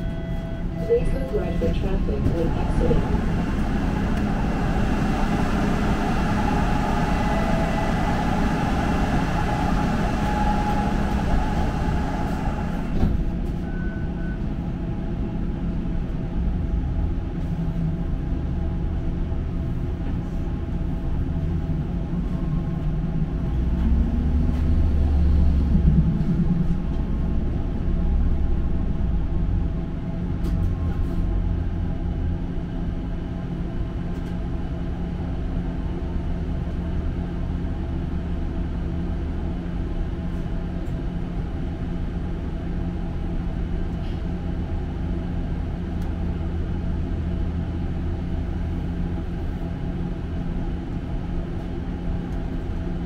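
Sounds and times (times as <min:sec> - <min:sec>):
streetcar rumbling on tracks: 0:00.0 - 0:53.0.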